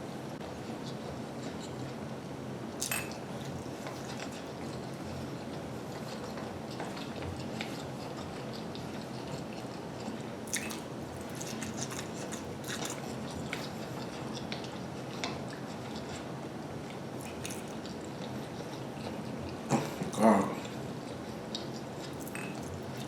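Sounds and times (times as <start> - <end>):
person chewing noodles: 3.5 - 23.0.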